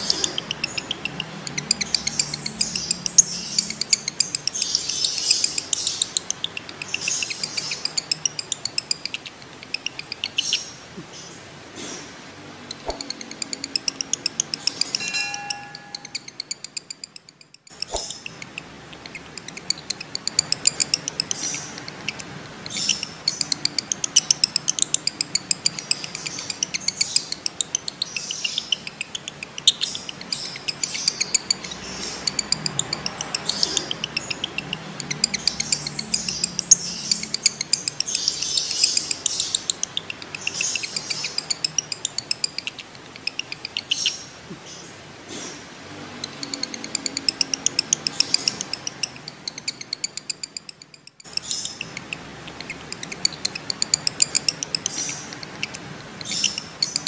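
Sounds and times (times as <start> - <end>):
lovebird chattering in sharp chirps: 0.0 - 12.0, 12.6 - 45.6, 46.2 - 57.0.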